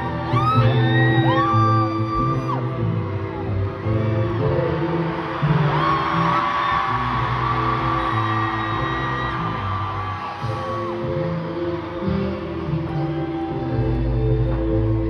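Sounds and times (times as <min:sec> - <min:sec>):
crowd yelling and cheering: 0:00.0 - 0:15.0.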